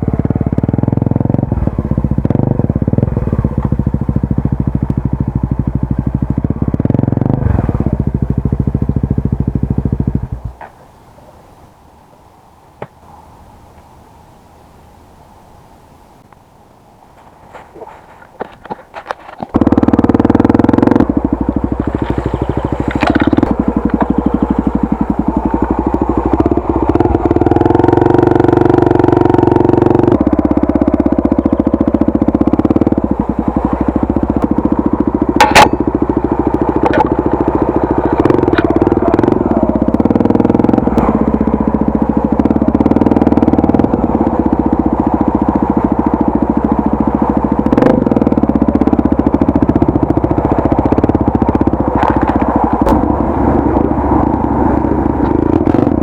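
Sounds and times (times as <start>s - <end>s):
motorcycle engine revving: 0.0s - 10.7s, 17.2s - 56.0s.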